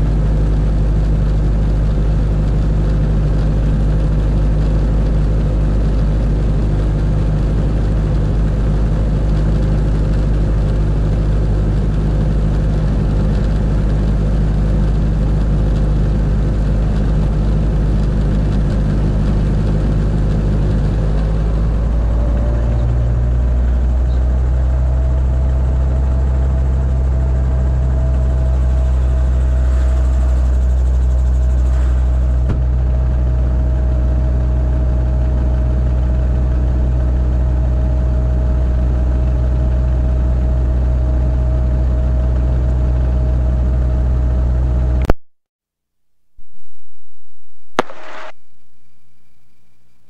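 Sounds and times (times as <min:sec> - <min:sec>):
helicopter engine and rotor drone: 0:00.0 - 0:45.0.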